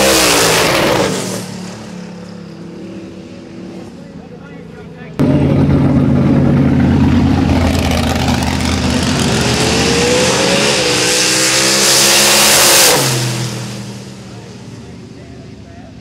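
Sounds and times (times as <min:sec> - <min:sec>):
truck engine at full throttle: 0:00.0 - 0:16.0.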